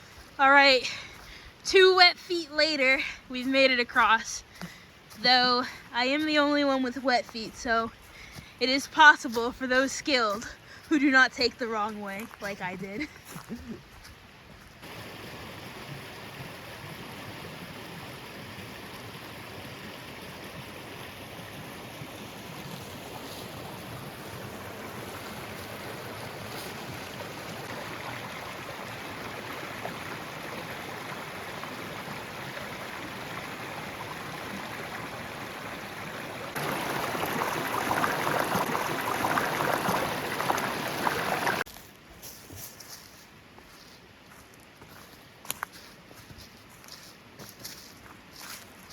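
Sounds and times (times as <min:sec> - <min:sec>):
creek water rushing: 0:00.0 - 0:41.7.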